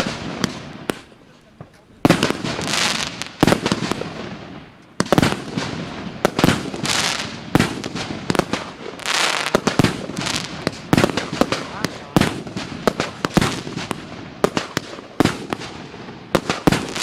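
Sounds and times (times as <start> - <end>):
firework bangs: 0.0 - 17.0.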